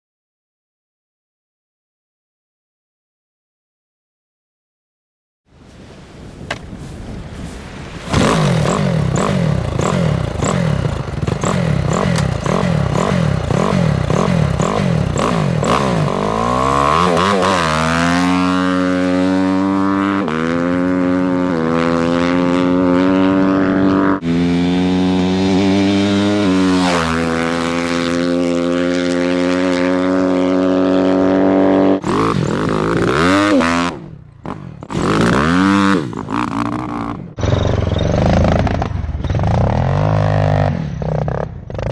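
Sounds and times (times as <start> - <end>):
motocross bike engine revving: 8.0 - 41.9.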